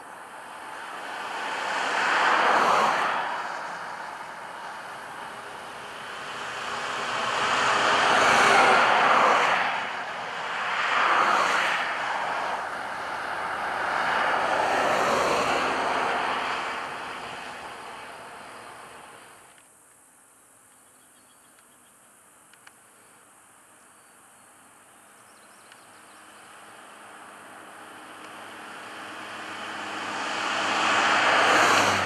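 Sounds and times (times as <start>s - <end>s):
vehicles passing on highway: 0.0s - 20.0s, 20.6s - 32.0s.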